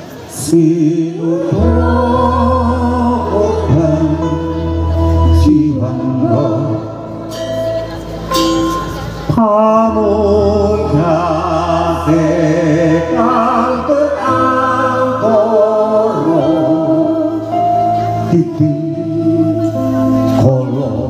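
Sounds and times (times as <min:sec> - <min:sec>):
sustained instrumental chords: 0:00.0 - 0:21.0
man singing through pa system: 0:00.2 - 0:07.4, 0:09.2 - 0:21.0.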